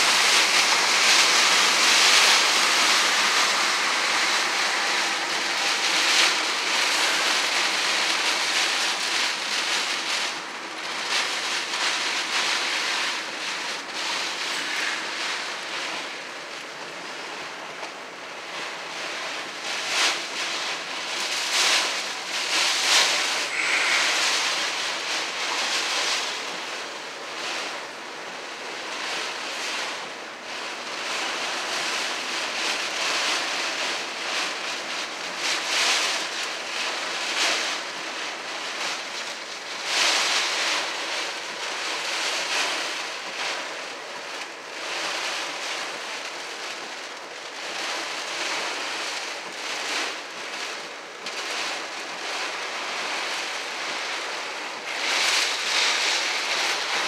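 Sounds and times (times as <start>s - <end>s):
storm wind: 0.0s - 46.8s, 47.6s - 57.0s
heavy rain beating on a car: 0.0s - 57.0s.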